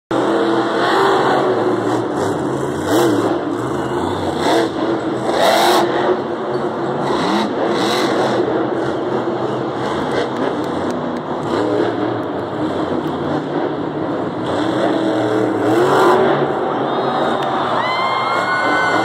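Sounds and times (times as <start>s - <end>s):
truck engine revving hard: 0.1s - 19.0s.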